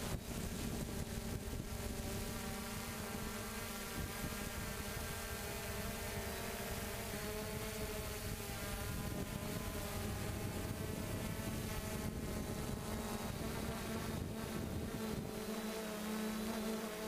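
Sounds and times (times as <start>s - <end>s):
wind noise: 0.0s - 15.6s
drone propellers humming: 0.0s - 17.0s.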